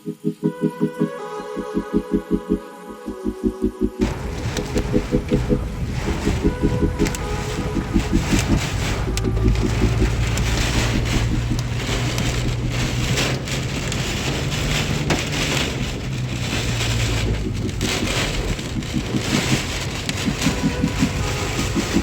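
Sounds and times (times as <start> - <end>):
low rumble of wind and car: 4.0 - 22.0
rain and hail pelting a car: 4.0 - 22.0.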